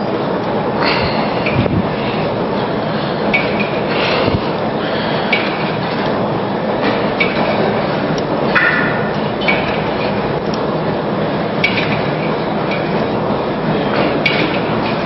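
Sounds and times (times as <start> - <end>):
loud background noise: 0.0 - 15.0.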